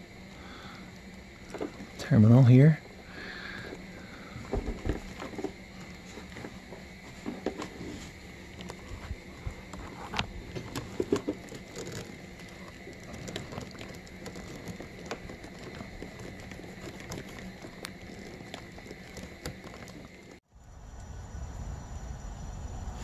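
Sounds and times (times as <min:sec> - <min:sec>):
wires rustling: 0:00.0 - 0:20.4.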